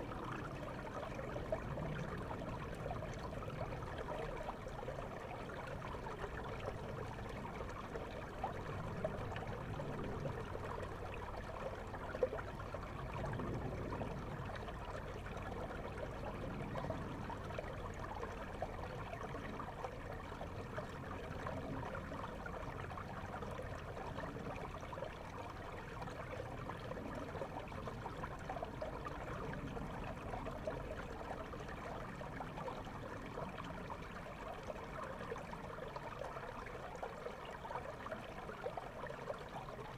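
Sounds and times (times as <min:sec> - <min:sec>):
underwater river rushing: 0:00.0 - 0:39.8.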